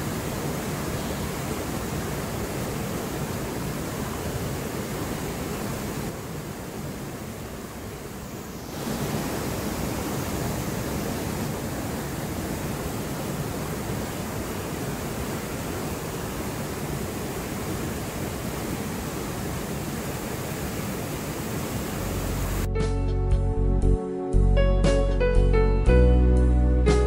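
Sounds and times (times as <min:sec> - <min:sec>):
white water cascading: 0:00.0 - 0:22.7.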